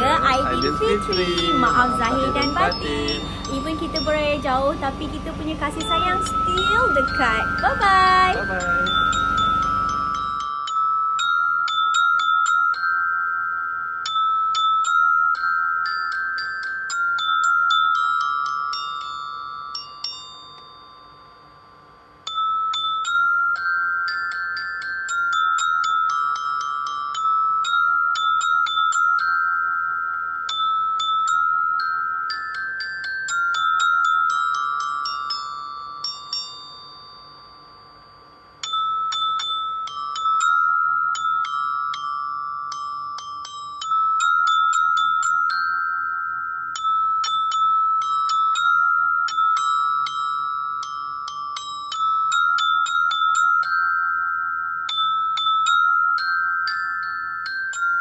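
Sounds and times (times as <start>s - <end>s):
glockenspiel-like chiming melody: 0.0s - 58.0s.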